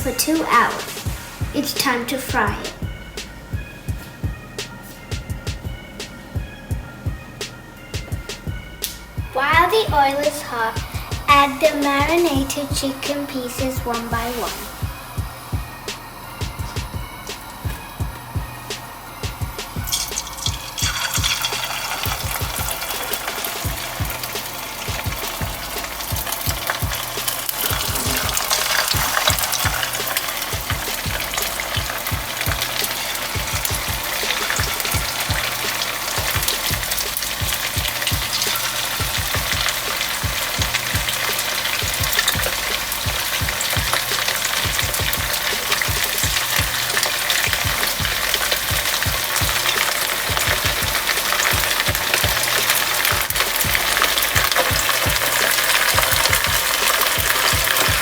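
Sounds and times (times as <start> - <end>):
chicken deep-frying in oil: 9.3 - 58.0.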